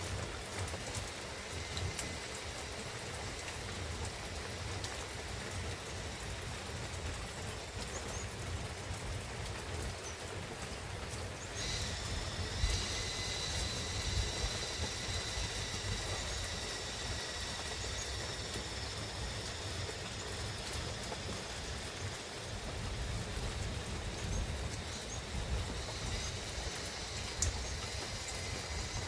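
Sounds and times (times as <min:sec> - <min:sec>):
rain pattering in forest: 0:00.0 - 0:29.0.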